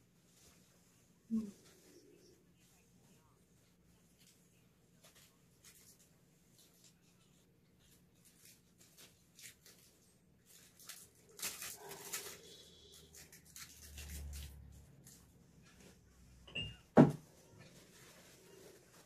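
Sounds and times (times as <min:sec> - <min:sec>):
rustling: 0:00.0 - 0:16.4, 0:17.2 - 0:19.0.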